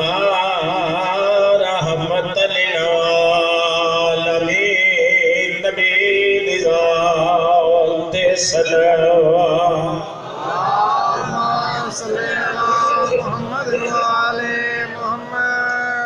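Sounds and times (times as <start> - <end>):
man chanting through loudspeaker: 0.0 - 10.2, 11.1 - 16.0.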